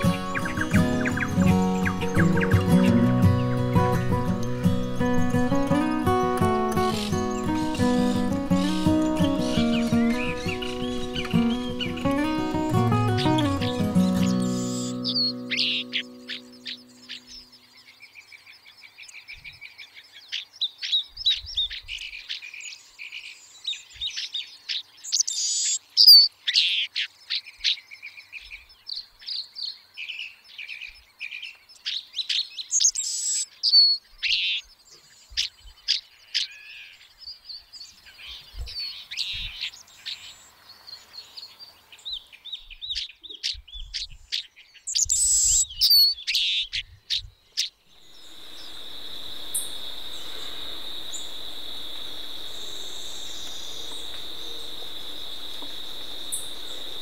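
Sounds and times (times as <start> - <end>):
flock of birds chirping: 0.0 - 57.0
loud sweeping bird calls: 0.0 - 57.0.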